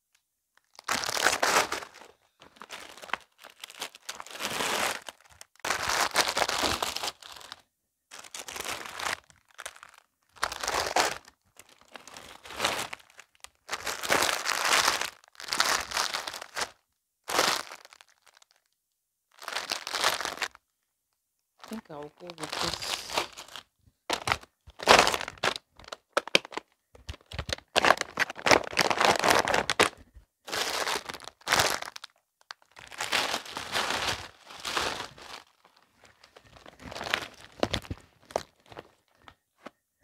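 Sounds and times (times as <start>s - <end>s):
plastic packets crinkling: 0.6s - 18.7s, 19.3s - 20.6s, 21.6s - 39.7s.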